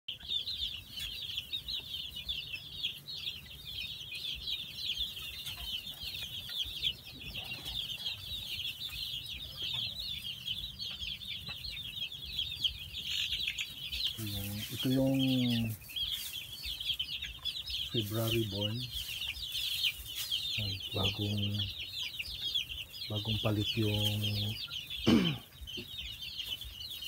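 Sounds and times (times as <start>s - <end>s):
chicks peeping: 0.1s - 27.0s.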